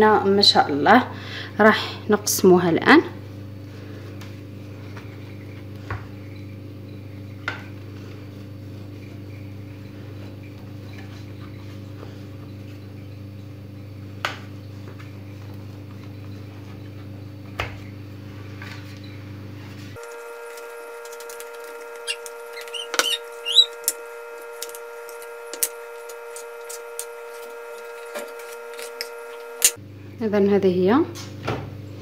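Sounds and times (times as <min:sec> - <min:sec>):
steady low hum: 0:02.8 - 0:30.7.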